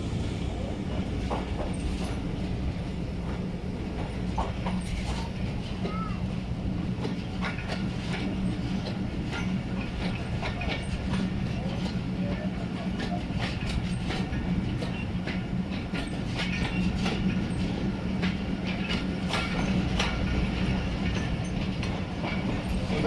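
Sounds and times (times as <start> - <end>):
train rumbling on track: 0.0 - 23.0
wheels clicking over rails: 0.9 - 23.0.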